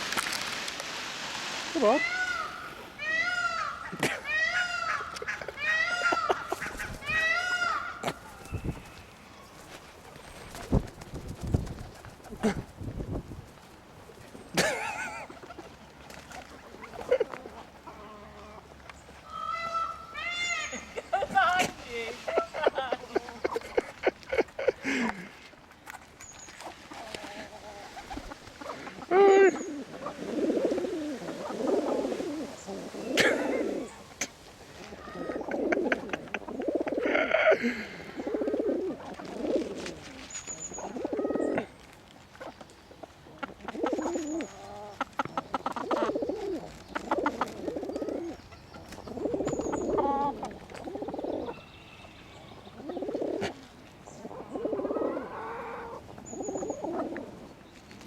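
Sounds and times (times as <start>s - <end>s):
birds calling: 1.8s - 10.9s, 14.2s - 39.6s, 40.2s - 58.0s.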